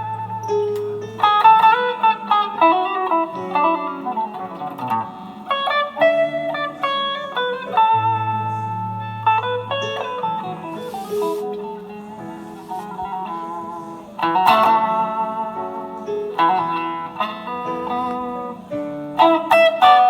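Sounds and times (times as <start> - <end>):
guitar lead melody: 0.0 - 20.0.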